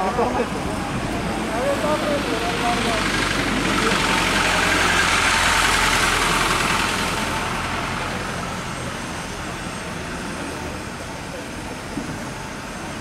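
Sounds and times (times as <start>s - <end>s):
truck engine driving past: 0.0s - 13.0s.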